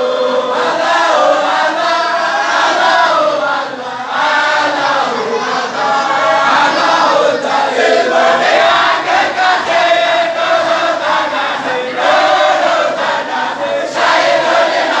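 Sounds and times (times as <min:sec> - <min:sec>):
group of men chanting: 0:00.0 - 0:15.0.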